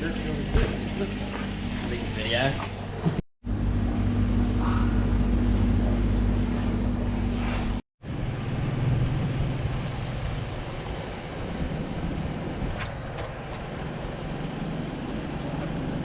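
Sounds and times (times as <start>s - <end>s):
motor running with low rumble: 0.0s - 16.0s.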